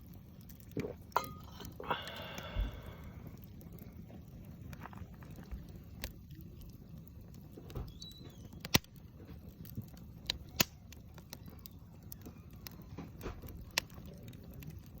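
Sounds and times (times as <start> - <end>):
fire crackling pops: 0.0 - 15.0
wood fire rushing: 0.0 - 15.0.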